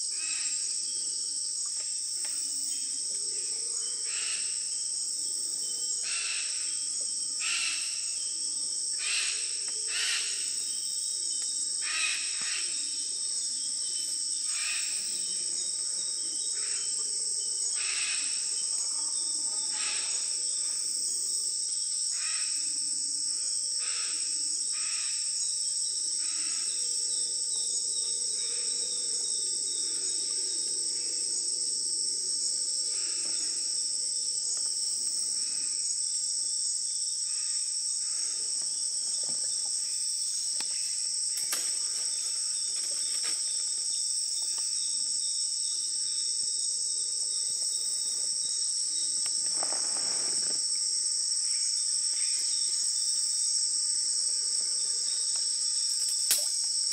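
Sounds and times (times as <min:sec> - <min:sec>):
insect chorus shrilling: 0:00.1 - 0:22.7, 0:32.6 - 0:56.9.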